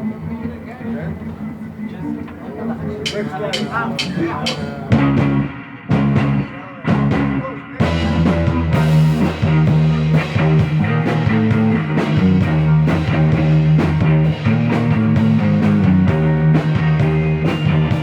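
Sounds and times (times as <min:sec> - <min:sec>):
rock band playing: 0:03.0 - 0:18.0.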